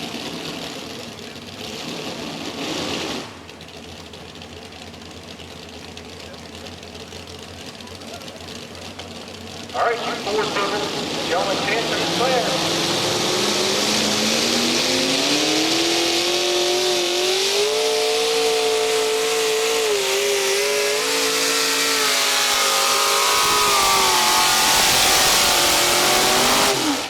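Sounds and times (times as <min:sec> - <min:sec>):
pulling tractor engine at full power: 0:00.0 - 0:27.0.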